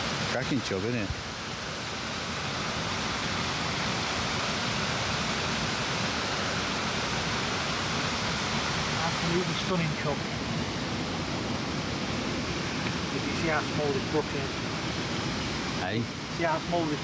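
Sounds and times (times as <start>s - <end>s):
brook water rushing: 0.0s - 17.0s.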